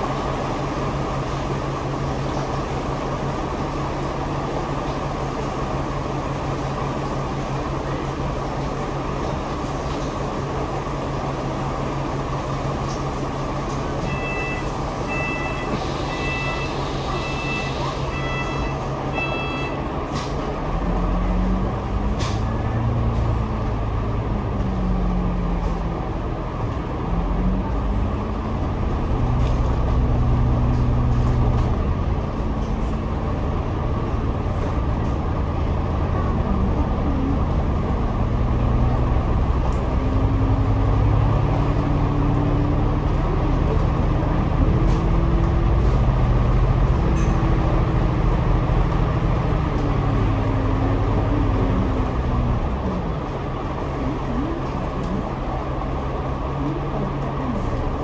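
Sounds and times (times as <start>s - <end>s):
bus engine idling and revving: 0.0s - 58.0s.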